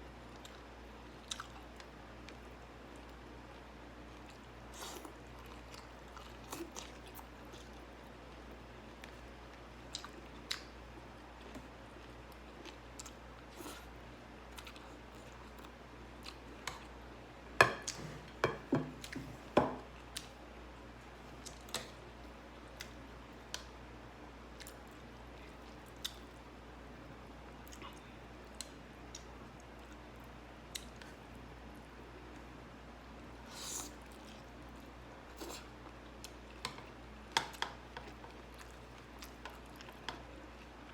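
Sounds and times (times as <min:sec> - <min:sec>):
soft chewing and mouth clicks: 0:00.2 - 0:17.0, 0:19.0 - 0:26.8, 0:27.4 - 0:32.6, 0:33.4 - 0:40.9.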